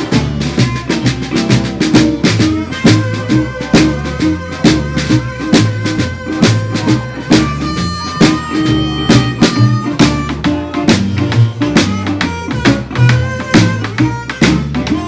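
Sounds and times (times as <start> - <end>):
drum beat: 0.0 - 15.0
guitar: 0.0 - 15.0
harmonica lead: 0.0 - 15.0
upright bass line: 0.0 - 15.0.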